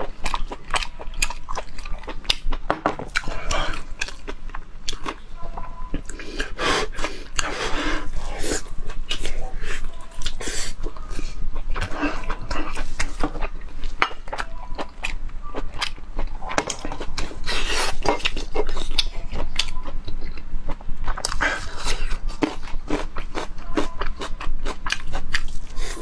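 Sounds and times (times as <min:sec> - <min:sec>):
mouth chewing and smacking: 0:00.0 - 0:05.2, 0:05.8 - 0:26.0.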